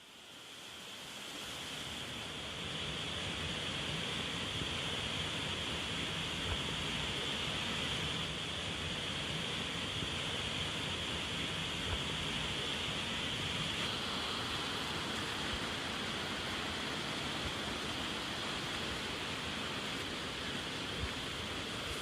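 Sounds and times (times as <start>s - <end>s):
small waterfall splashing: 0.0s - 22.0s.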